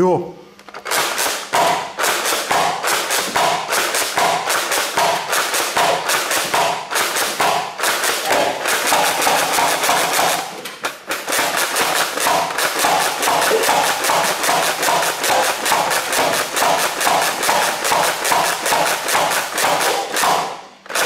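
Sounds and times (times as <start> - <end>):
toy blaster pump clacking: 0.6 - 21.0.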